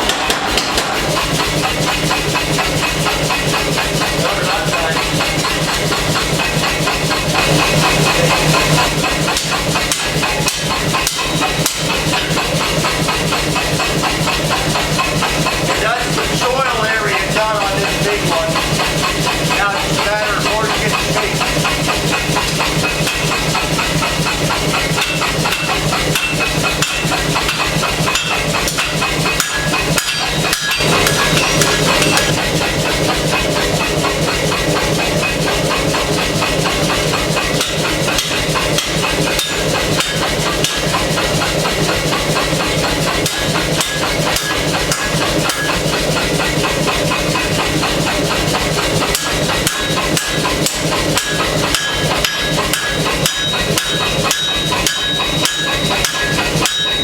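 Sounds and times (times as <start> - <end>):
air hammer blows: 0.0 - 57.0
machine hum: 0.0 - 57.0.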